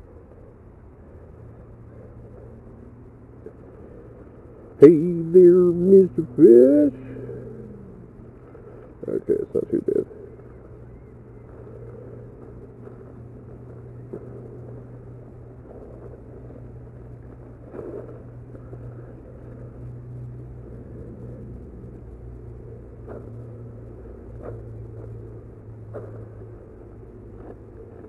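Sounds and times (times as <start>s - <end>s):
low rumble and hum: 0.0s - 28.0s.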